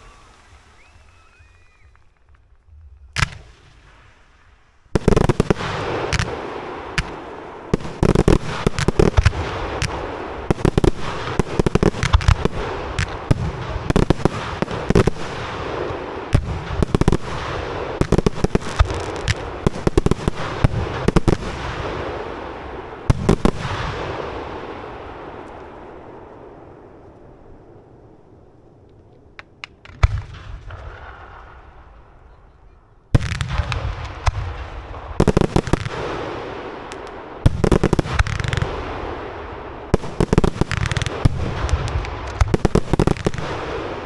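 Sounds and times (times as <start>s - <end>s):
firework crackling: 0.0s - 32.4s, 33.0s - 44.0s
firework bangs: 0.0s - 44.0s.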